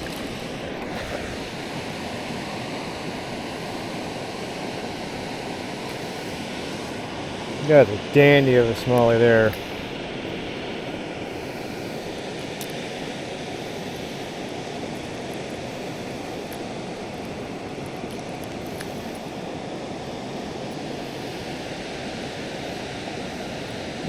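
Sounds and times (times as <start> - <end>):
water roaring through spillway: 0.0 - 24.0.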